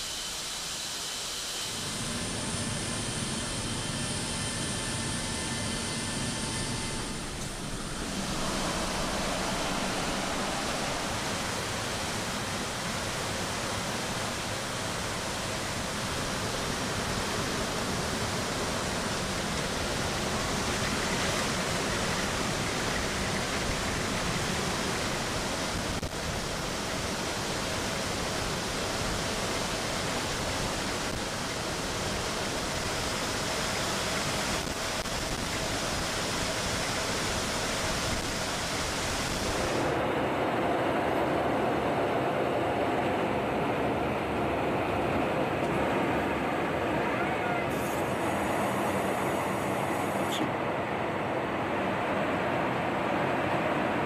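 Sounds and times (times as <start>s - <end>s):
rushing air and aircraft engines: 0.0s - 54.0s.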